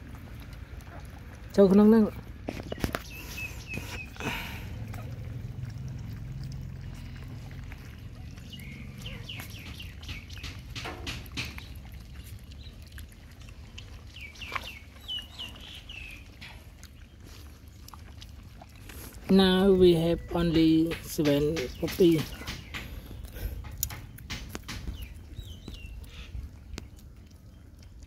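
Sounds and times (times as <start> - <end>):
wet licking clicks: 0.0 - 1.5, 2.5 - 19.3, 20.8 - 28.0
puppies lapping milk: 0.0 - 28.0.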